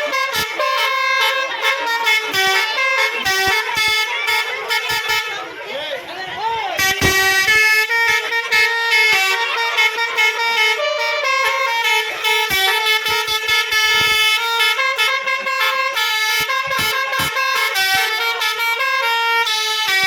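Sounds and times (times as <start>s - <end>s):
musical air horn tune: 0.0s - 5.7s, 6.7s - 20.0s.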